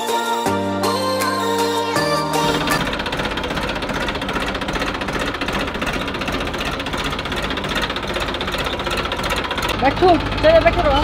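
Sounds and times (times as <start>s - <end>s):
tractor diesel engine running: 0.8s - 11.0s.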